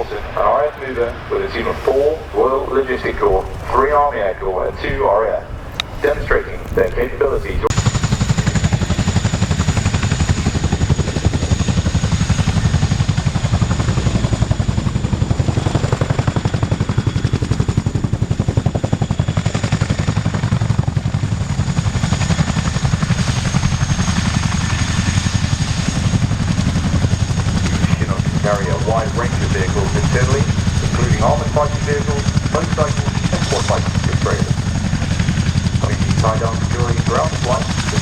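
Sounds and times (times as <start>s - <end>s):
helicopter rotors beating: 0.0s - 38.0s.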